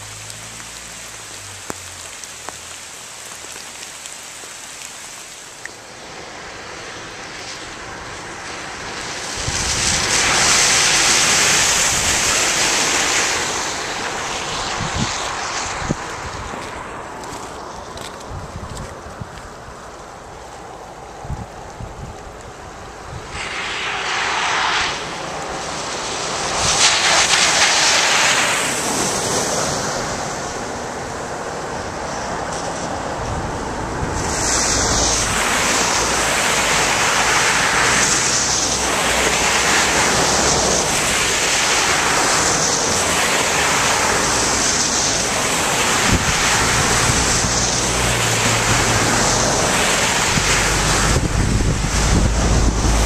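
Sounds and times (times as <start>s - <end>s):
floodwater rushing and splashing: 0.0s - 53.0s
wind buffeting microphone: 9.2s - 20.0s, 21.1s - 53.0s.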